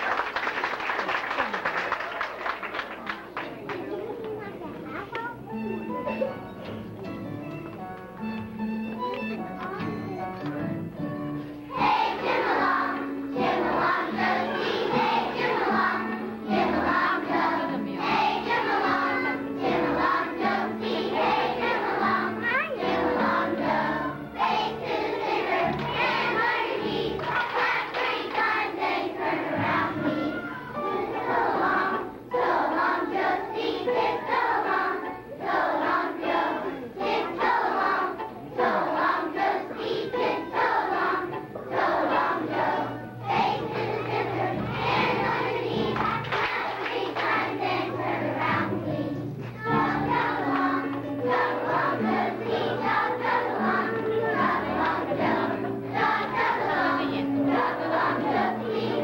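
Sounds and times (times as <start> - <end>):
children's choir singing: 9.0 - 59.0.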